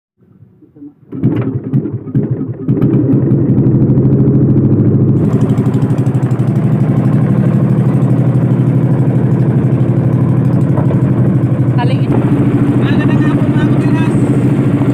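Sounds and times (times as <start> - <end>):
small boat engine chugging: 1.0 - 14.9.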